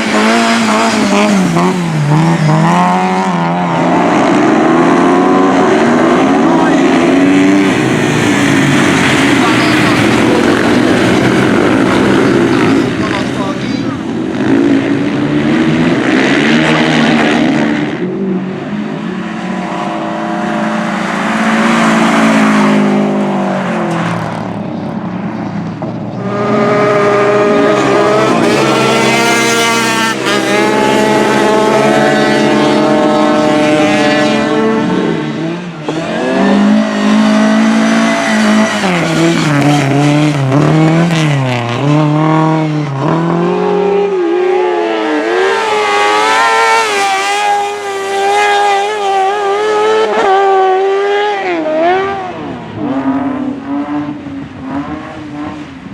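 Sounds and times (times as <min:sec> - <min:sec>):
motorcycle engines howling: 0:00.0 - 0:55.9.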